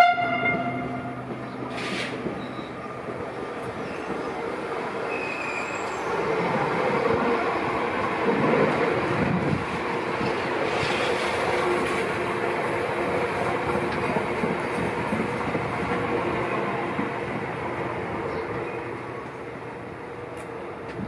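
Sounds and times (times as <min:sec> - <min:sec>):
passenger train passing: 0:00.0 - 0:21.0.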